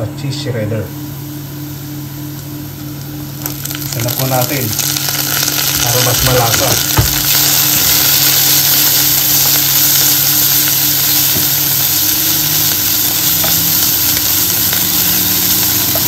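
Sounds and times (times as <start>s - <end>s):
low steady hum: 0.0s - 16.0s
food sizzling in hot oil: 3.0s - 16.0s.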